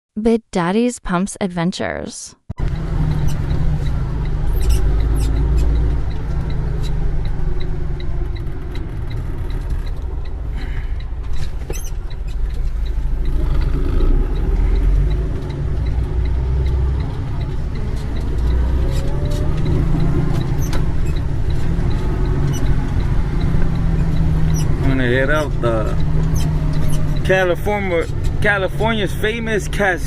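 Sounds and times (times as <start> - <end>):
faint regular ticking: 2.6 - 30.0
vehicle engine low rumble: 2.6 - 30.0.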